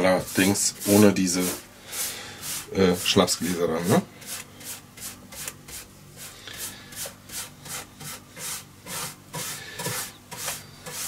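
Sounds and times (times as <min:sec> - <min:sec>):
paintbrush scrubbing wood: 0:00.0 - 0:11.0.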